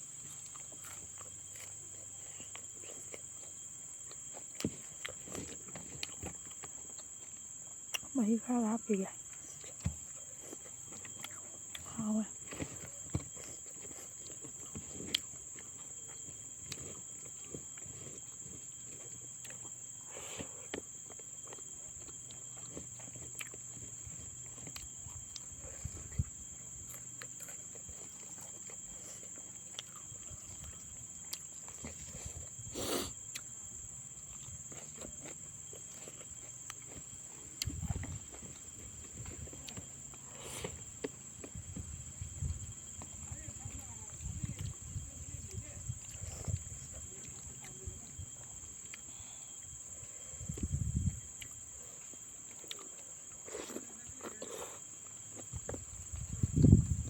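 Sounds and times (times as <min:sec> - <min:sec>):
person chewing and sucking: 0:00.2 - 0:08.1, 0:09.2 - 0:41.6, 0:45.8 - 0:49.8, 0:50.4 - 0:57.0.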